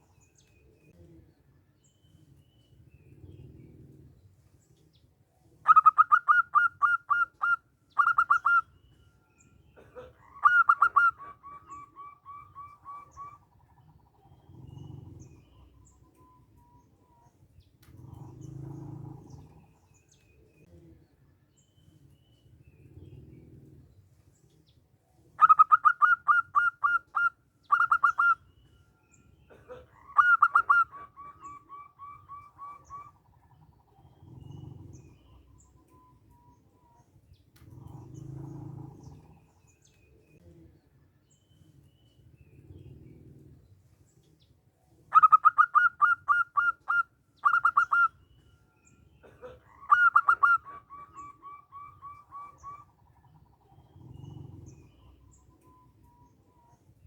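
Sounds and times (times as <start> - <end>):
dove cooing: 3.0 - 4.4, 5.5 - 8.9, 9.8 - 21.0, 25.3 - 28.8, 29.4 - 40.8, 42.0 - 57.0.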